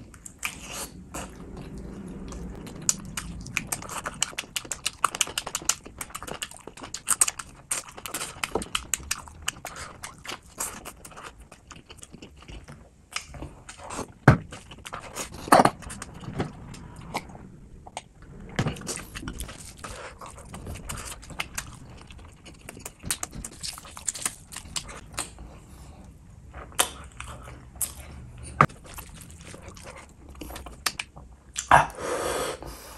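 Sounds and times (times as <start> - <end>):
wet chewing and lip-smacking: 2.3 - 16.2, 18.8 - 31.7.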